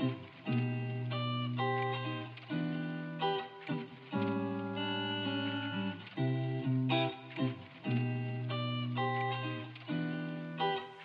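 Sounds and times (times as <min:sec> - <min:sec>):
guitar music: 0:00.0 - 0:11.0.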